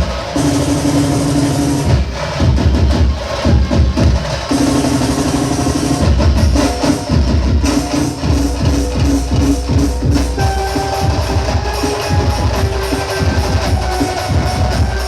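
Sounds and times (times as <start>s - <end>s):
loud music with bass-drum beat: 0.0s - 15.0s.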